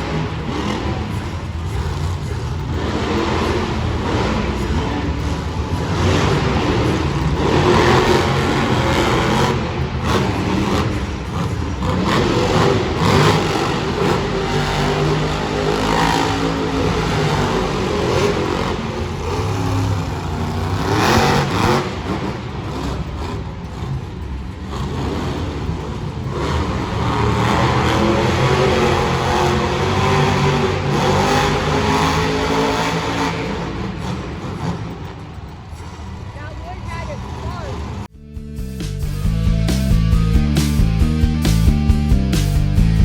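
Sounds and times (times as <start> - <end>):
monster truck engines revving: 0.0 - 43.0.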